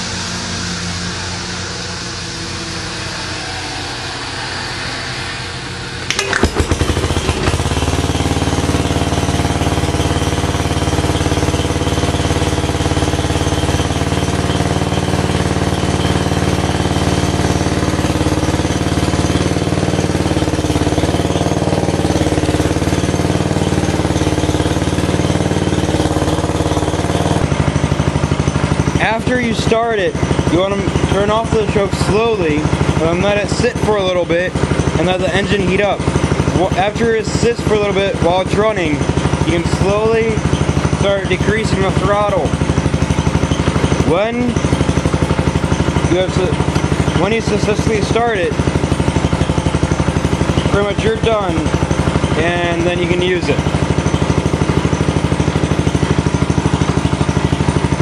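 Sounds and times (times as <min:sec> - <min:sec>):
small engine starting and running: 0:00.0 - 0:58.0
rope starter pull: 0:06.1 - 0:58.0.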